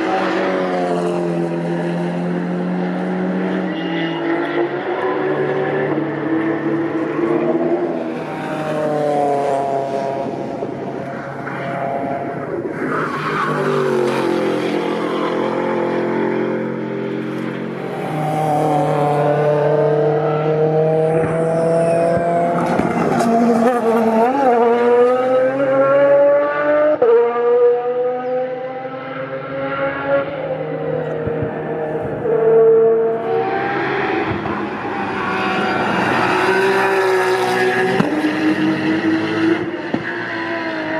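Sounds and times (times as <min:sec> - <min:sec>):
race cars driving past: 0:00.0 - 0:40.9.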